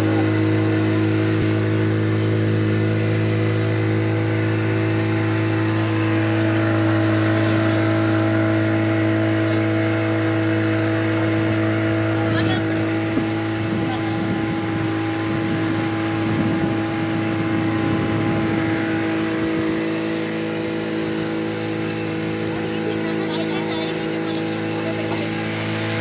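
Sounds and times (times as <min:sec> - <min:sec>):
motorboat engine humming: 0:00.0 - 0:26.0.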